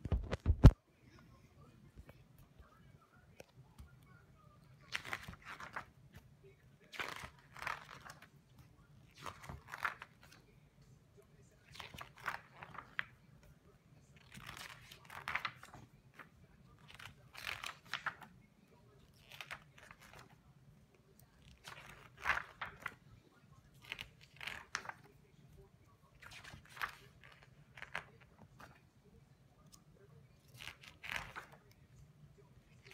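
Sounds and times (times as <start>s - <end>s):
book pages turning: 0.0s - 0.8s, 4.6s - 10.6s, 11.6s - 32.9s.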